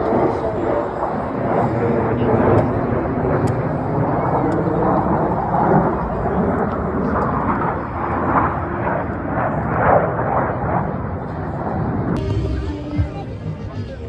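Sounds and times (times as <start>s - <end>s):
jet engines roaring overhead: 0.0s - 14.0s.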